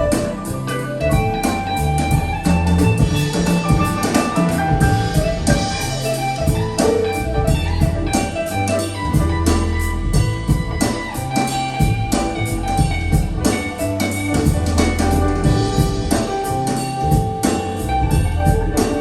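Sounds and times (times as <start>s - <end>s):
drums: 0.0s - 19.0s
guitar: 0.0s - 19.0s
heavy bass notes: 0.0s - 19.0s.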